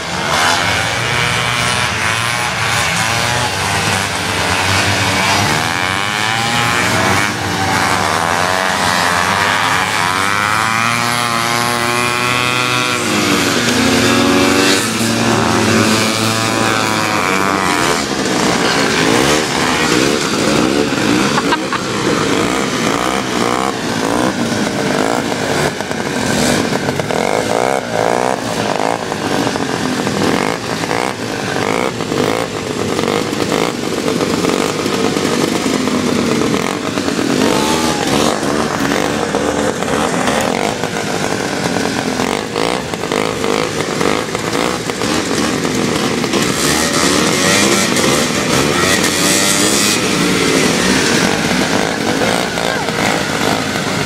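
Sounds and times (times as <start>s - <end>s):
snowmobile engines revving: 0.0s - 54.0s.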